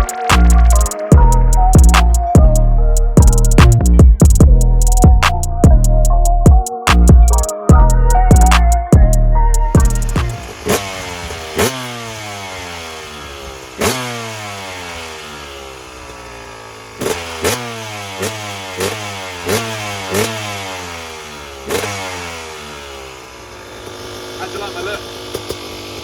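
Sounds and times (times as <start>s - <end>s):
dirt bike engine revving: 0.0s - 6.2s, 6.9s - 26.0s.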